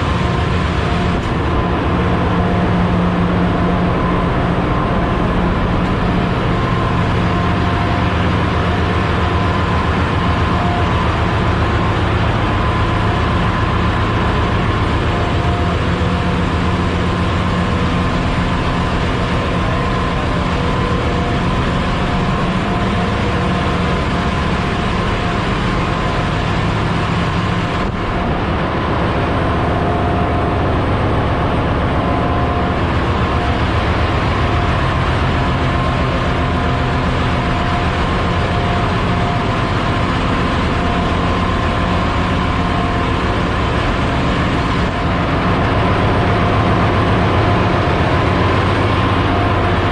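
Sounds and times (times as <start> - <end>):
engine room machinery drone: 0.0 - 49.9
steady whining tones: 0.0 - 49.9.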